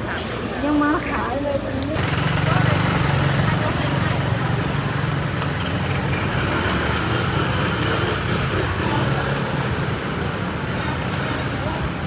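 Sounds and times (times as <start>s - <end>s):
street hum: 0.0s - 12.0s
vehicle engines running: 0.0s - 12.0s.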